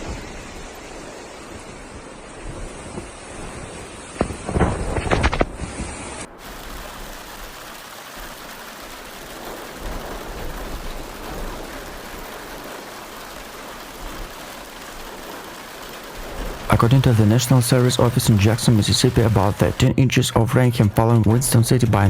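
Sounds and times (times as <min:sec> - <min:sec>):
loud crackling crash: 0:00.0 - 0:19.9
wind and rain: 0:00.0 - 0:22.0.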